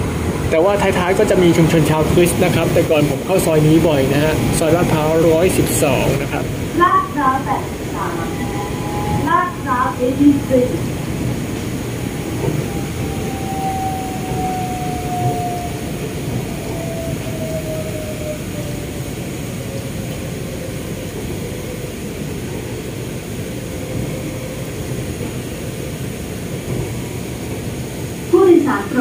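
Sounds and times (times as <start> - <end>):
monorail train rumbling: 0.0 - 29.0.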